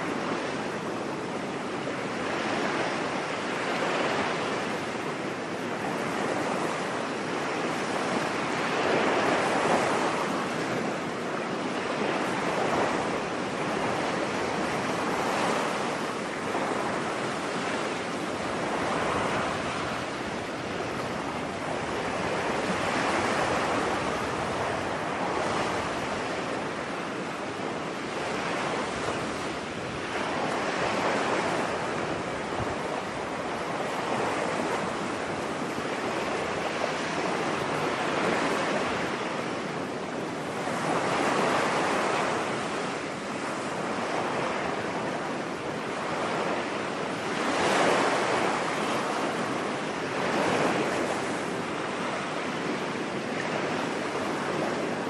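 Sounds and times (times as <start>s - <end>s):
ocean waves washing onto beach: 0.0s - 55.0s.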